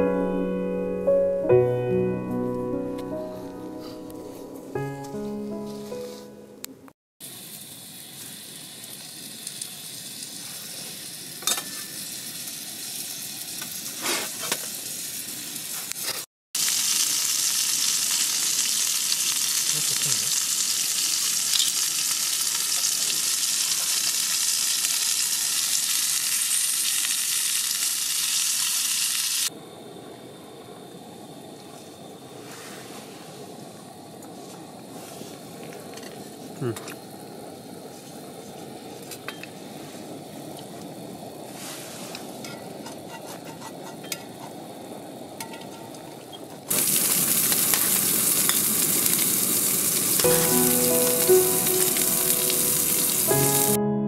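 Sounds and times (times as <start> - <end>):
pot boiling on gas stove: 7.2 - 53.8.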